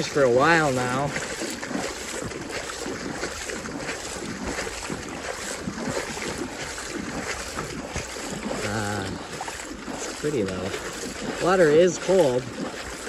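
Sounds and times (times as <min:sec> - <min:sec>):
water sloshing around wading legs: 0:00.0 - 0:13.0
wind buffeting microphone: 0:00.0 - 0:13.0.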